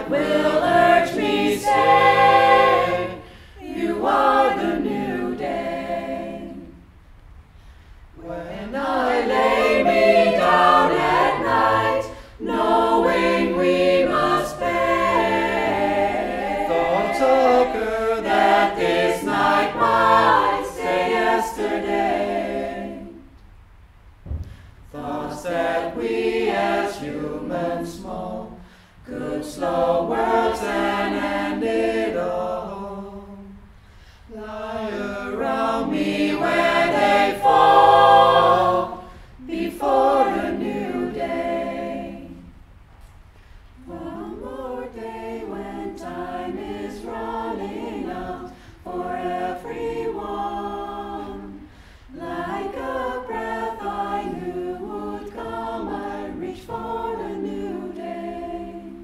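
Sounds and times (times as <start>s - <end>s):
choir singing unaccompanied: 0.0s - 6.9s, 8.2s - 23.4s, 24.9s - 33.7s, 34.3s - 42.6s, 43.8s - 59.0s.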